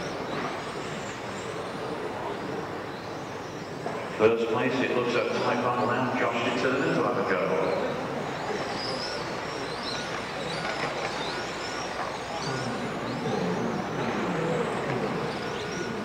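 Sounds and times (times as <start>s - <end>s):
rc car motor whines: 0.0s - 16.0s.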